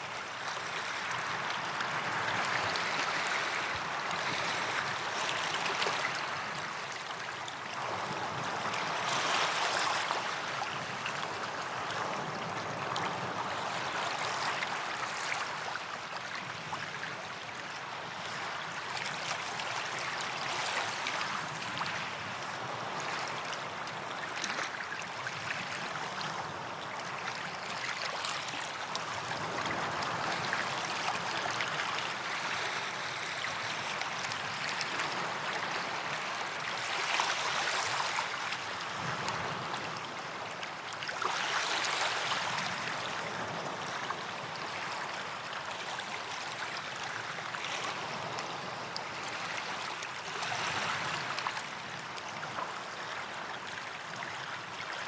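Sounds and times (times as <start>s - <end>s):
small waves washing on beach: 0.0s - 55.0s.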